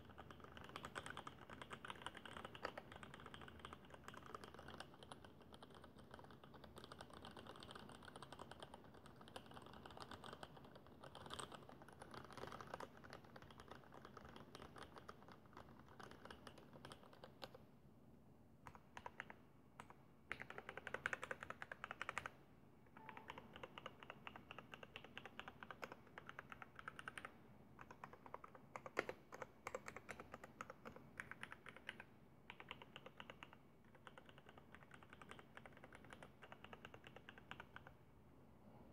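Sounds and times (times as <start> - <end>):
fast mechanical keyboard typing: 0.0 - 17.6, 18.7 - 22.3, 23.0 - 38.0.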